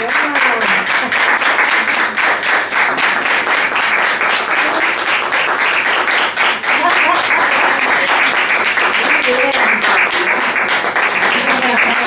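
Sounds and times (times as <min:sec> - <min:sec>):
small group applauding: 0:00.0 - 0:12.0.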